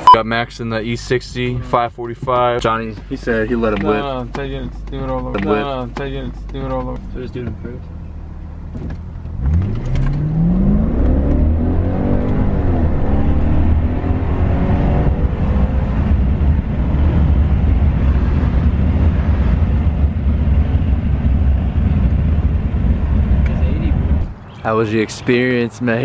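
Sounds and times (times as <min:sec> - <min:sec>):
car engine accelerating: 0:02.3 - 0:24.4.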